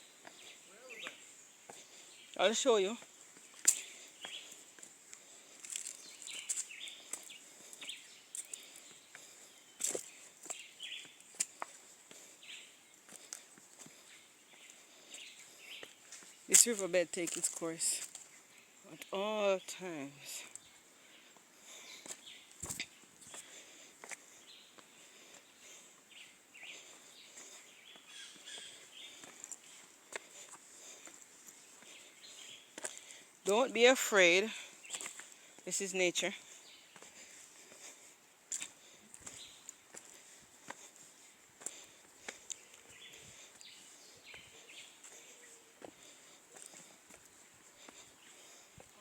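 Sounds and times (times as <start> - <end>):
footsteps crunching on rough ground: 0.0 - 19.1, 20.1 - 49.0
birds chirping: 0.0 - 49.0.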